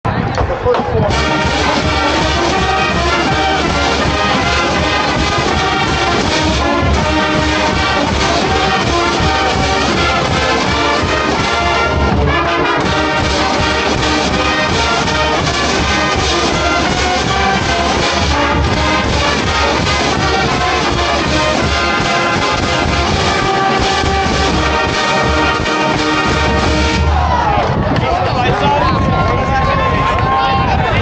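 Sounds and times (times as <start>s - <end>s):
brass band playing loudly: 0.5s - 30.9s.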